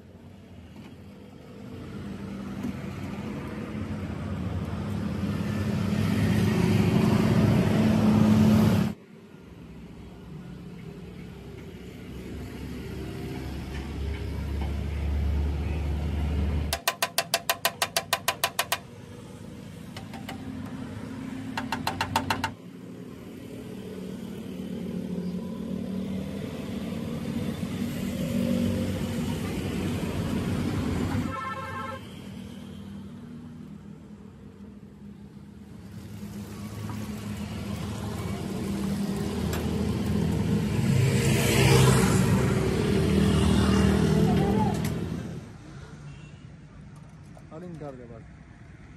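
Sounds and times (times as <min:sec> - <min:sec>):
vehicles passing: 0:00.0 - 0:48.9.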